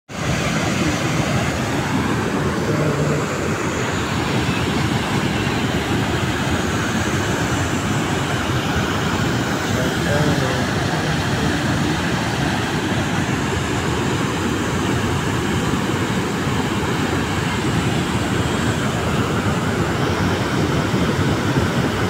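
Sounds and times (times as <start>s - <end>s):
floodwater rushing: 0.1s - 22.0s.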